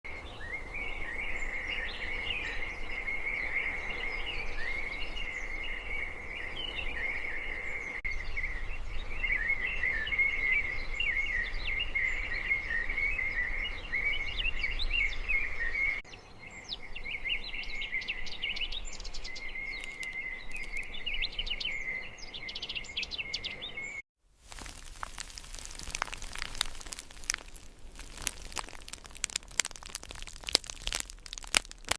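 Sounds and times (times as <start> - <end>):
birds chirping: 0.1 - 24.0, 24.6 - 31.9.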